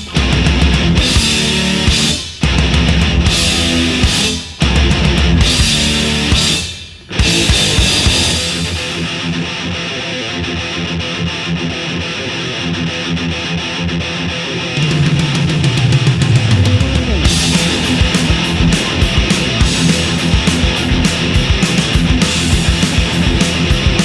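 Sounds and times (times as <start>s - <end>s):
heavy metal music with guitar: 0.0s - 24.0s.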